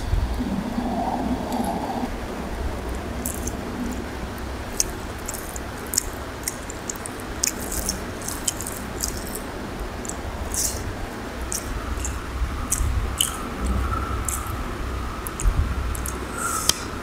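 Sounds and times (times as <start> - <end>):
low steady hum: 0.0 - 17.0
person chewing food: 3.2 - 16.9
fingers squishing rice: 3.2 - 17.0.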